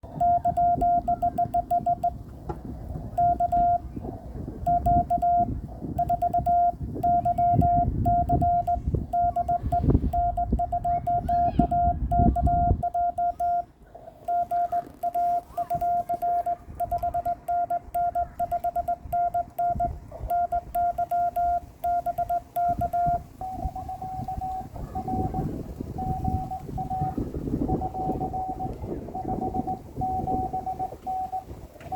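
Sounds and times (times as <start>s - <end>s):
morse code beeps: 0.0s - 2.2s, 3.0s - 3.9s, 4.6s - 31.9s.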